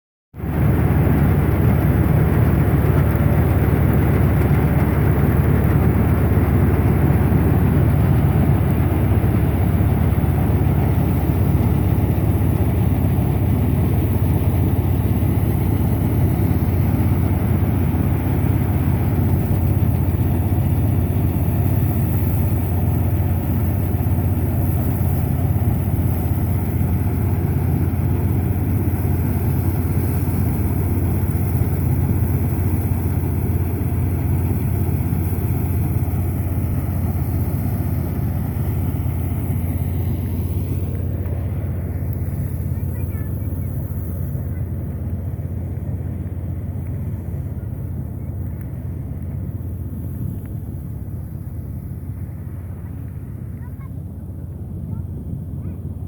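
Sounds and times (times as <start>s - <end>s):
combine harvester engine drone: 0.3s - 56.0s.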